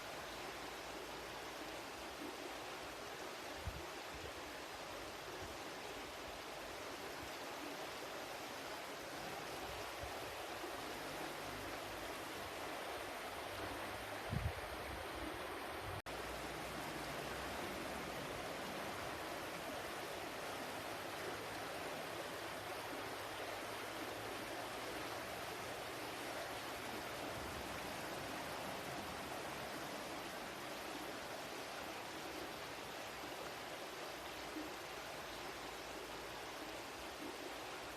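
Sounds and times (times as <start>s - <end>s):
water rushing: 0.0s - 37.9s.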